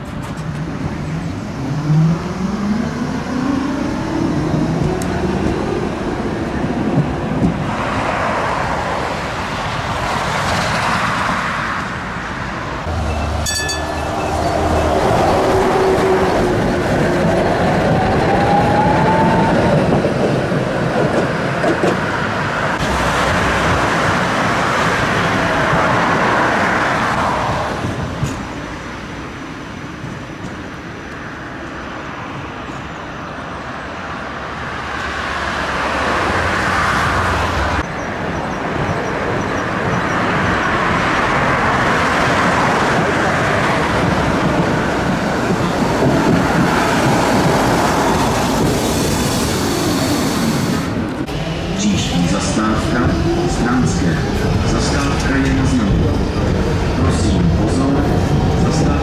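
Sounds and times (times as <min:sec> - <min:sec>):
tram running on rails: 0:00.0 - 0:59.0.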